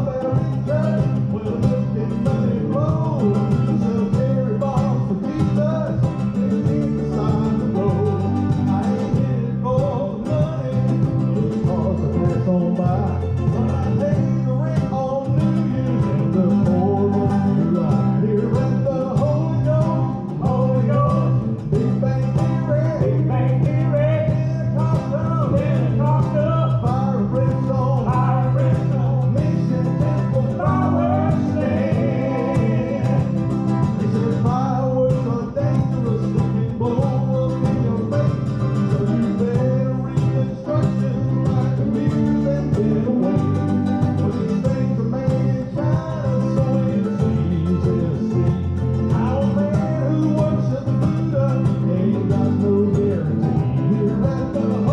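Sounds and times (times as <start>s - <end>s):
string band playing bluegrass: 0.0s - 54.9s.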